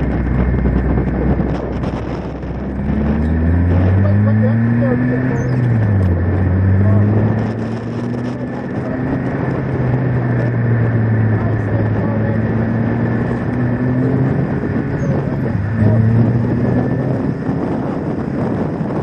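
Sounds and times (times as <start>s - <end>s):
supercharged car engine revving: 0.0s - 19.0s
wind rushing: 0.0s - 19.0s.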